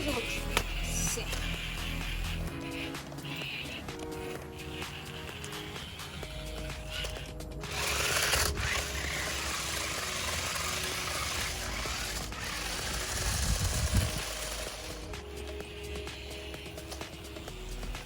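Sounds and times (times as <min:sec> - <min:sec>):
background music: 0:00.0 - 0:18.0
small electric motor whirring: 0:00.0 - 0:18.0.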